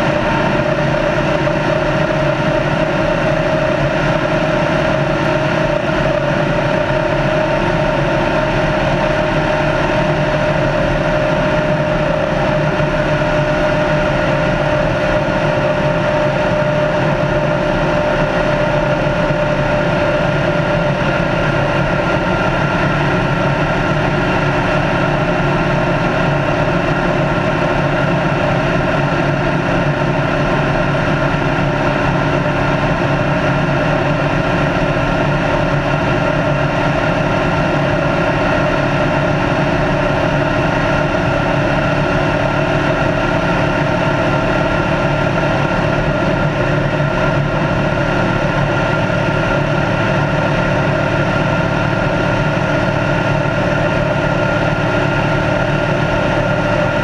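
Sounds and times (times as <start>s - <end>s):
race car engine running steadily: 0.0s - 57.0s.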